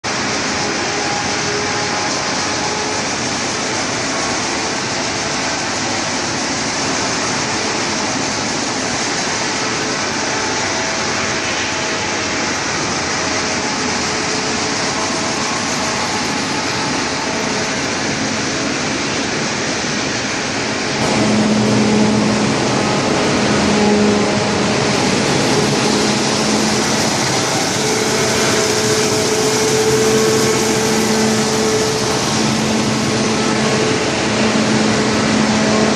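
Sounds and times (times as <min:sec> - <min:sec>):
machine loud mechanical noise: 0:00.0 - 0:35.9.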